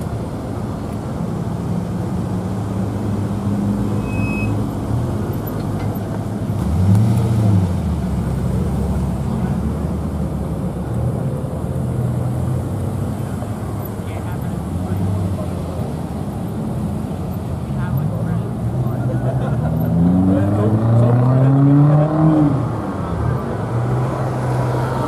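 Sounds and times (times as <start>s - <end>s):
car engines running at low revs: 0.0s - 25.0s.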